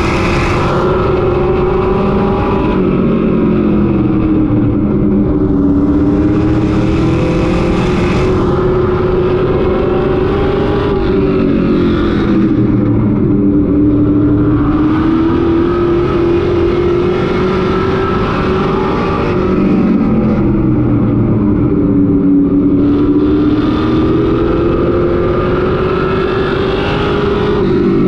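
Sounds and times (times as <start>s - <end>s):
truck engine running hard: 0.0s - 28.0s.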